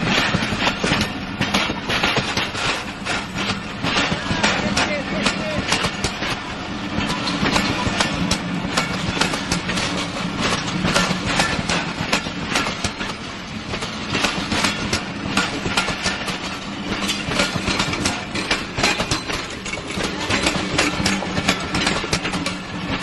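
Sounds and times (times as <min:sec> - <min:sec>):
train wheels clicking over rail joints: 0:00.0 - 0:23.0.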